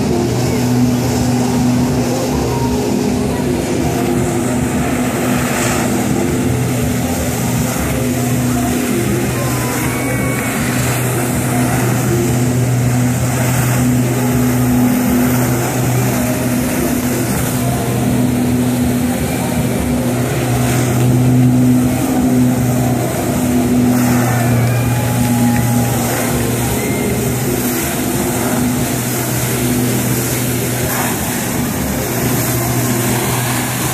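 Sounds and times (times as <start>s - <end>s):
water jets spraying: 0.0s - 33.9s
watercraft engine at high revs: 0.0s - 33.9s.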